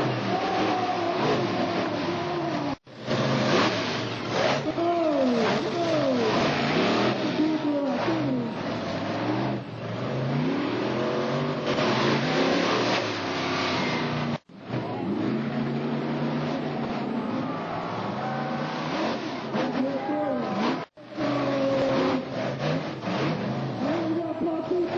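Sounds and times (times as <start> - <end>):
truck engine revving hard: 0.0 - 24.9.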